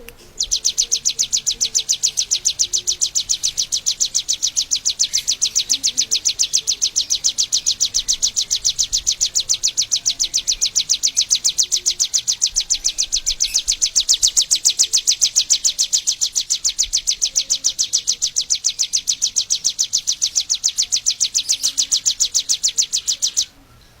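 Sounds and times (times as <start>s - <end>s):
bird high-pitched chirps: 0.0s - 24.0s.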